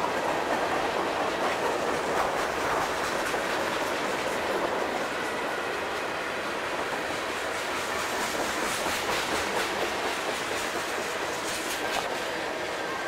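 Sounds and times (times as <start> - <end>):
wheels clacking over rail joints: 0.0 - 12.4
train wheels on rails: 0.0 - 13.0.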